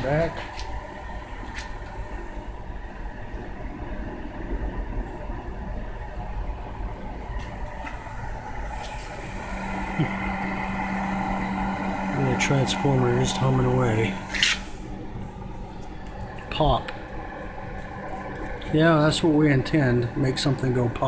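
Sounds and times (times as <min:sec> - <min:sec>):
microwave fan rumble: 0:00.0 - 0:21.0
transformer hum: 0:00.0 - 0:21.0.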